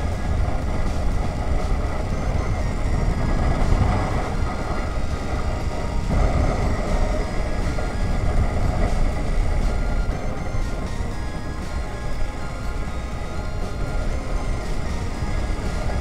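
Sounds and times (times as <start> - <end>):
motorcycle running: 0.0 - 16.0
wind buffeting microphone: 0.0 - 16.0.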